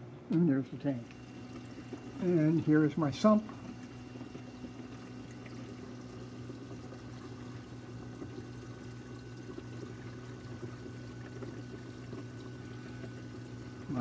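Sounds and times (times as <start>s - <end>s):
low pump hum: 0.0s - 14.0s
water running and trickling: 1.0s - 14.0s.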